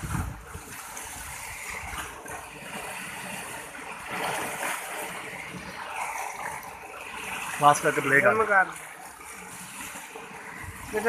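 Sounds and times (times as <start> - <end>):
rush of water: 0.0 - 11.0
water splashing from swimming: 0.0 - 11.0.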